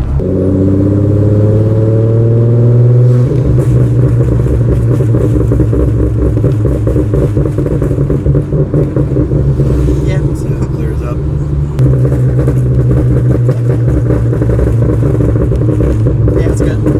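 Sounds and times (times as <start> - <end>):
car engine revving: 0.0 - 16.9
exhaust crackles and pops: 2.6 - 16.9.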